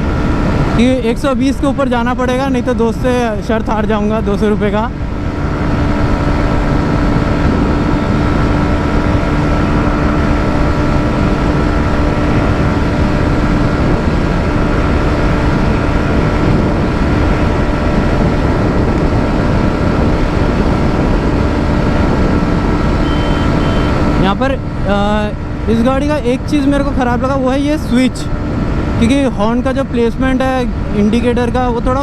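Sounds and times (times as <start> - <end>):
motorcycle engine running flat out: 0.0 - 32.0
wind rush over microphone: 0.0 - 32.0.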